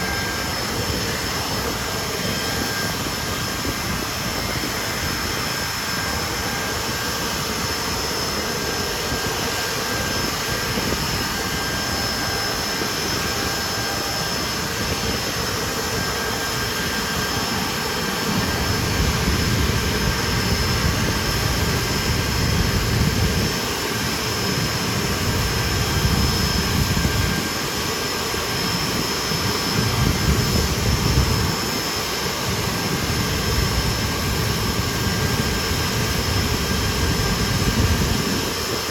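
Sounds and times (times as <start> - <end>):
jet engines hissing and whining: 0.0 - 38.9.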